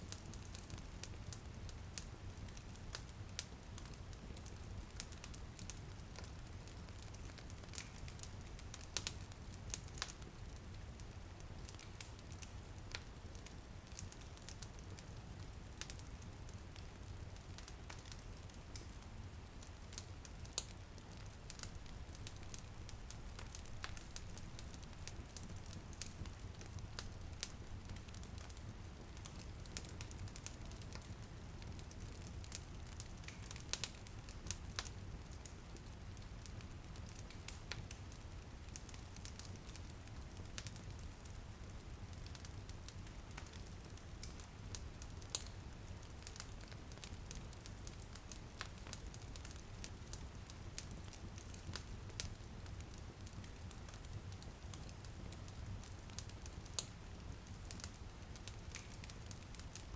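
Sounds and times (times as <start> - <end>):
light rain patter: 0.0 - 59.9
wood fire crackling and popping: 0.1 - 59.9.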